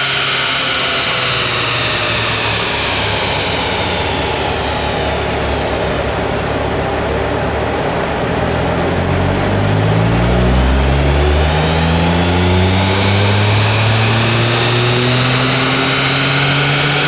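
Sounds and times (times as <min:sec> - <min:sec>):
car engine revving: 0:00.0 - 0:17.0
loud exhaust rush: 0:00.0 - 0:17.0.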